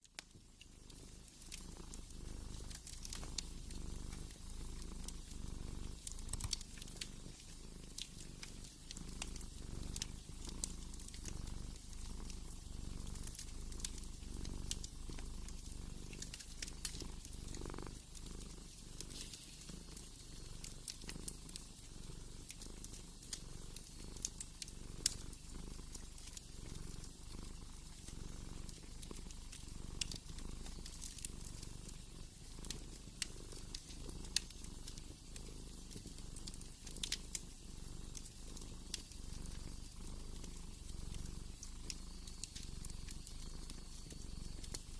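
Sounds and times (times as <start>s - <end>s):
cat purring: 0.0s - 44.9s
wood fire crackling: 0.1s - 44.9s.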